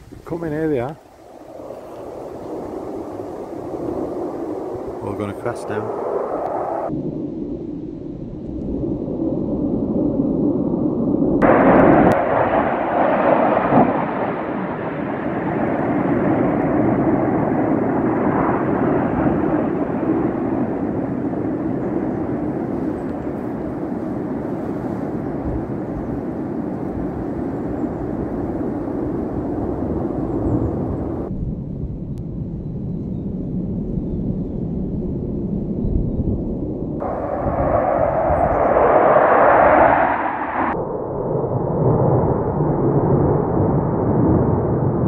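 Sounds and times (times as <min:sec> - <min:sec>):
jet passing overhead: 0:00.3 - 0:31.4, 0:34.7 - 0:45.0.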